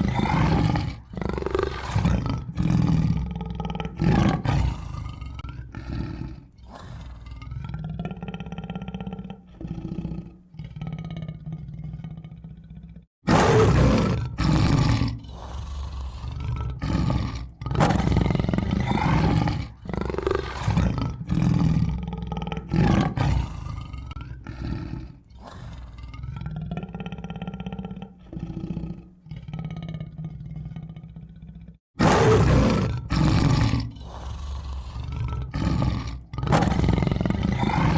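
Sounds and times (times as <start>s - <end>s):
tiger roaring and growling: 0.0s - 37.9s.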